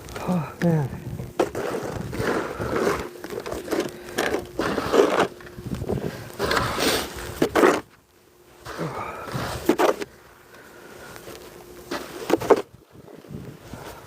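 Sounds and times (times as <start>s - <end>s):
snow shovel scraping pavement: 1.4s - 8.0s, 8.6s - 14.0s.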